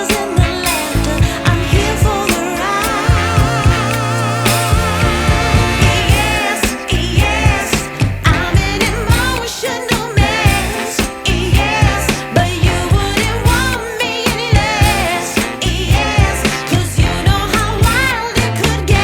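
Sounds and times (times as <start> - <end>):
pop song with vocals and drums: 0.0 - 19.0.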